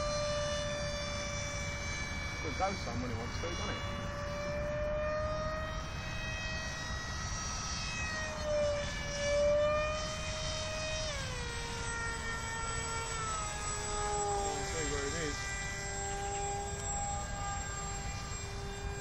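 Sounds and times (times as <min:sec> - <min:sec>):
model jet motor whining: 0:00.0 - 0:19.0.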